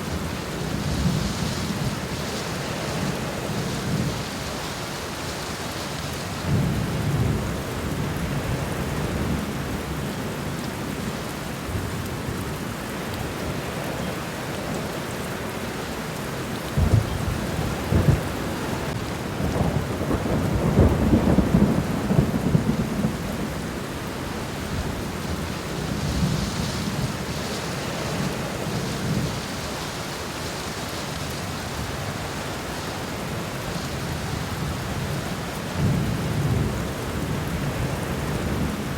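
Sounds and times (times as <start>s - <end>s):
steady rain hitting ground: 0.0s - 38.9s.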